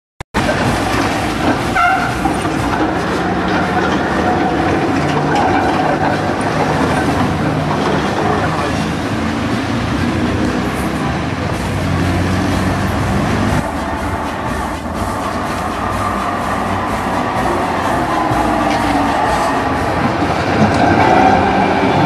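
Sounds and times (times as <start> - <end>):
tram wheel and motor noise: 0.4 - 22.0.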